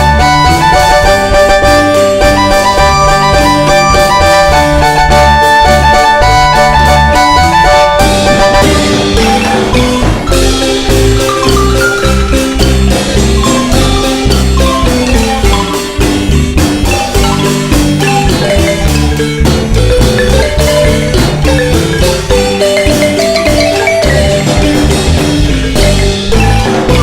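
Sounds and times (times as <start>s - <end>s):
marimba dance music: 0.0s - 27.0s.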